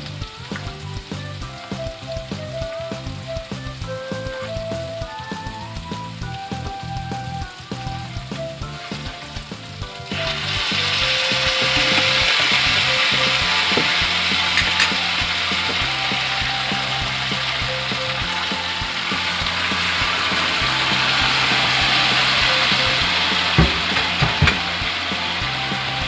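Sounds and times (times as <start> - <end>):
food frying in hot oil: 0.0 - 26.0.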